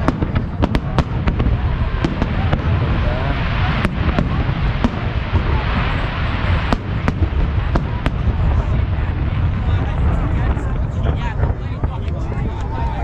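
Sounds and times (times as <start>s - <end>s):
crowd chatter: 0.0s - 13.0s
fireworks bangs and crackles: 0.0s - 13.0s
low rumble: 0.0s - 13.0s.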